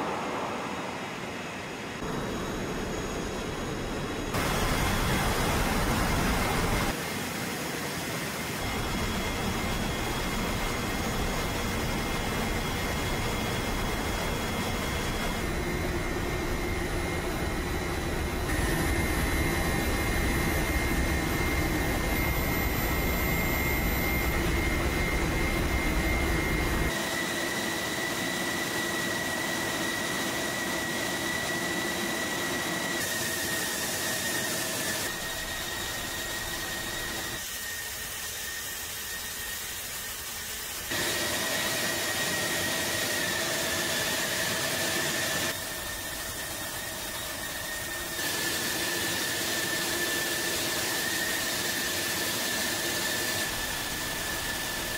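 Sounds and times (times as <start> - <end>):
blowers and motors rushing: 0.0 - 54.9.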